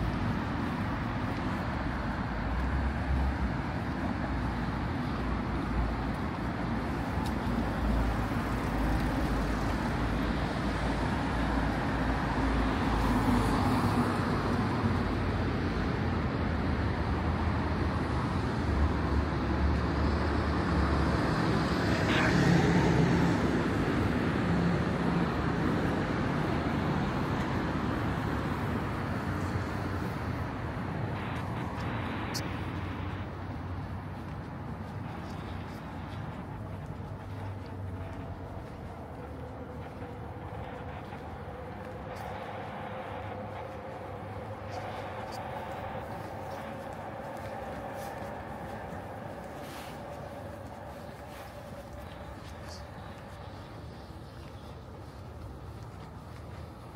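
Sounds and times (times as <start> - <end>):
vehicles passing: 0.0 - 56.9.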